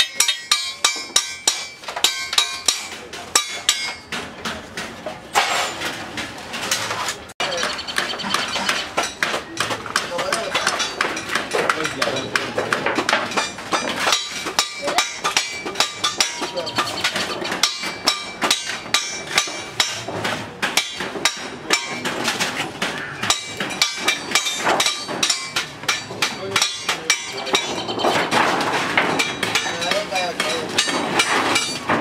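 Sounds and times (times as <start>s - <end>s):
metallic knocks on sheet metal: 0.0s - 6.4s, 7.4s - 32.0s.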